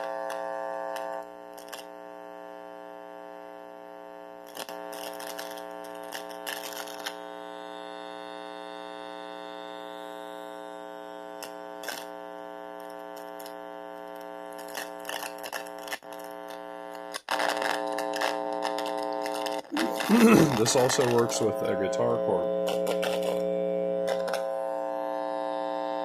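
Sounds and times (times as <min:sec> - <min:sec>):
crackles: 0:00.0 - 0:26.0
guitar amplifier electrical buzz: 0:00.0 - 0:26.0.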